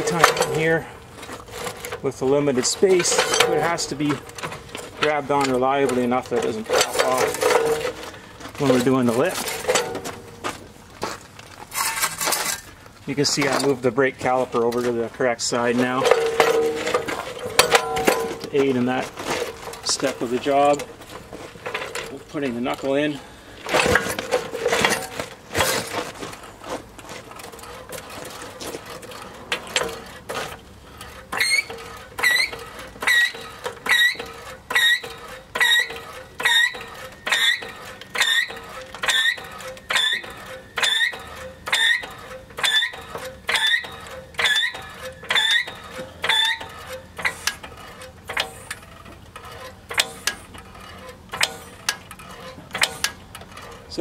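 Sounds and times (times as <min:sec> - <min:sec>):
hydraulic jack pumping squeaks: 0:00.0 - 0:10.7, 0:11.6 - 0:54.0
jack knocks and clicks: 0:00.0 - 0:54.0.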